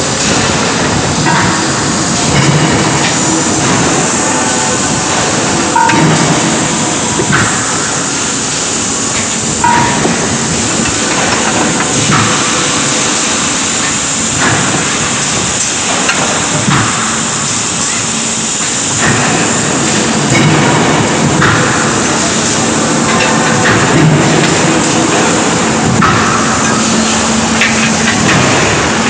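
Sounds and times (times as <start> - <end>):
hissing machinery noise: 0.0 - 29.0.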